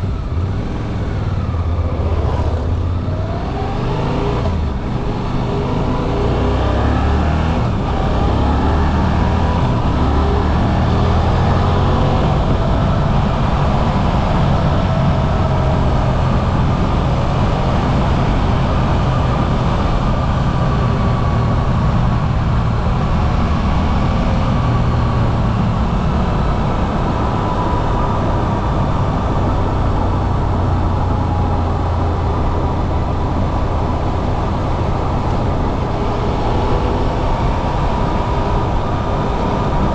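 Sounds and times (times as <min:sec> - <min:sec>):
wind and road rush: 0:00.0 - 0:39.9.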